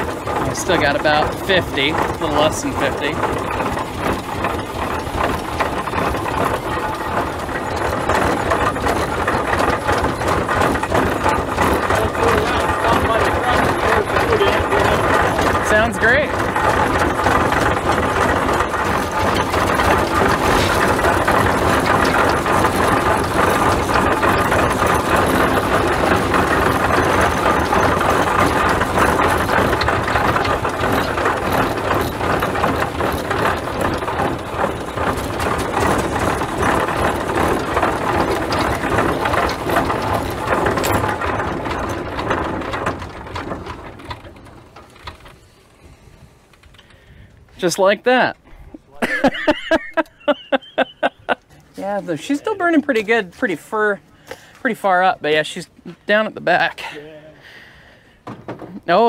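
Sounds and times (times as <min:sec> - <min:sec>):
steam traction engine clatter: 0:00.0 - 0:59.0.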